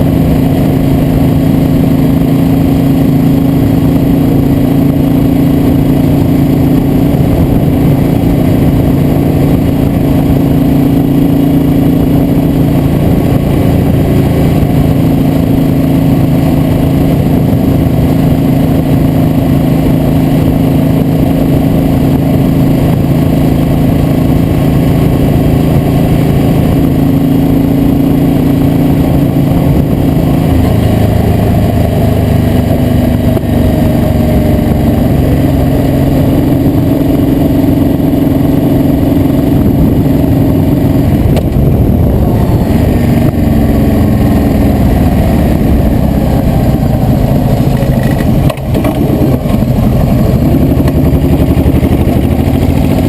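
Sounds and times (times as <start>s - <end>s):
steady rushing noise: 0.0s - 53.0s
vehicle engine running: 0.0s - 53.0s.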